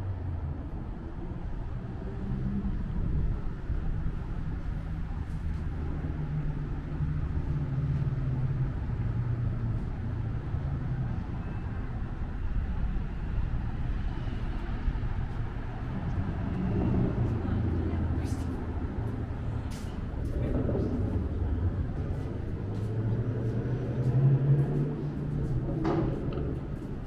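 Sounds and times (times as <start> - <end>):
street traffic: 0.0 - 27.0
vehicle engine rumbling: 0.0 - 27.0.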